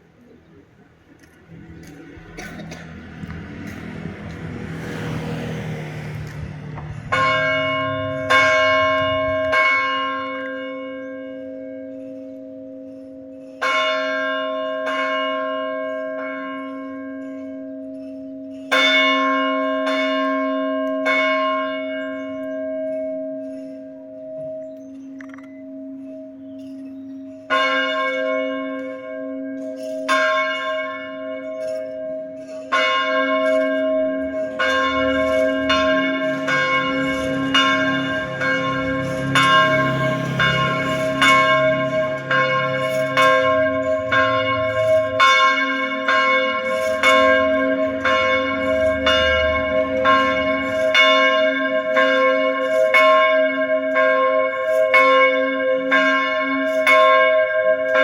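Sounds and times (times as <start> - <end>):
church bell ringing: 1.5 - 58.0.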